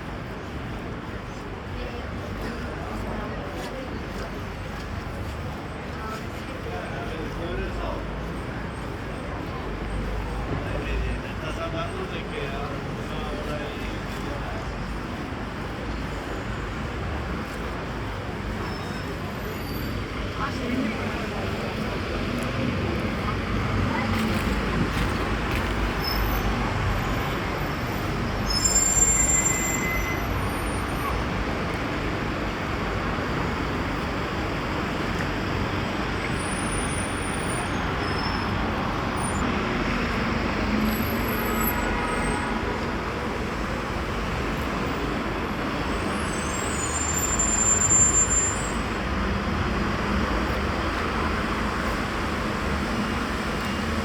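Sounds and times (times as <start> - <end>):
traffic passing: 0.0 - 54.0.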